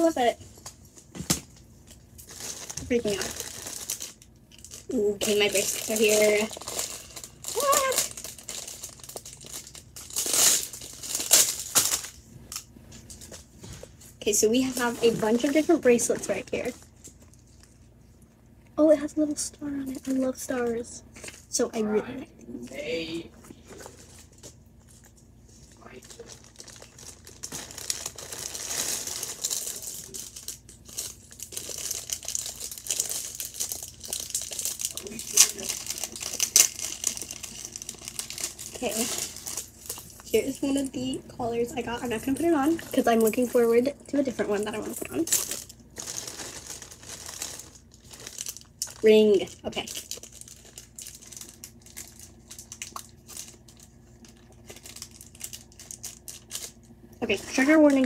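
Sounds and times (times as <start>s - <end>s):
plastic bags crinkling: 0.0s - 17.9s, 23.6s - 58.0s.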